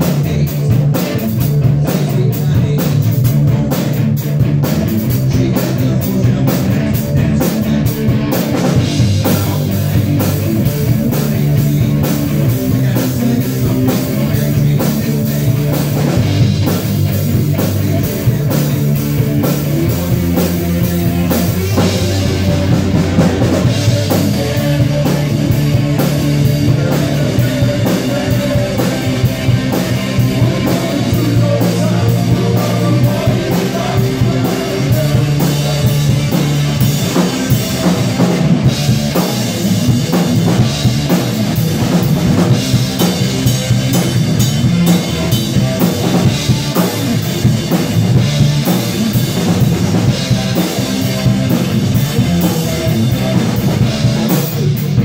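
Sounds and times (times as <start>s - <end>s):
drum kit beat: 0.0s - 55.0s
electric bass: 0.0s - 55.0s
electric guitar: 0.0s - 55.0s.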